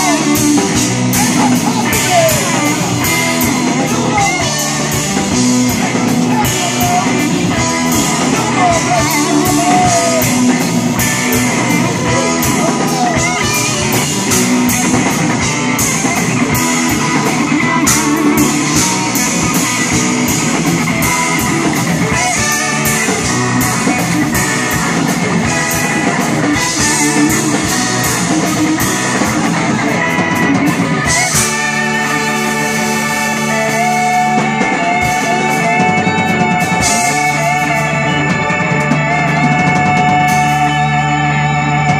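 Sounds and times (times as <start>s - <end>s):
blues-rock band playing: 0.0s - 41.9s.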